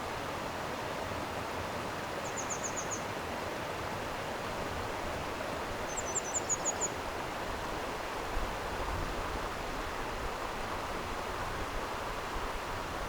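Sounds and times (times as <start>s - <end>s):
stream water flowing: 0.0s - 13.0s.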